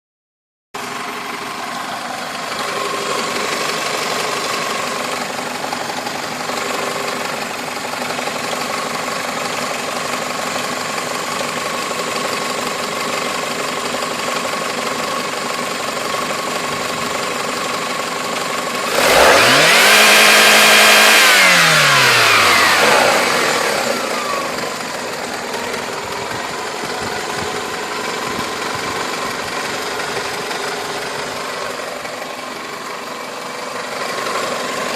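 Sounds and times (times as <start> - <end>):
car engine running and revving: 0.8 - 34.9.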